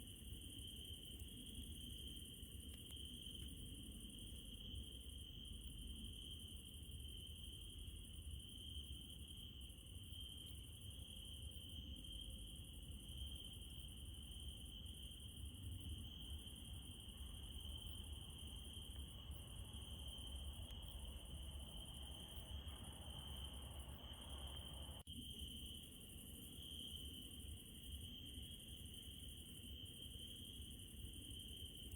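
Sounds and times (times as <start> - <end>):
crickets trilling: 0.0 - 31.9.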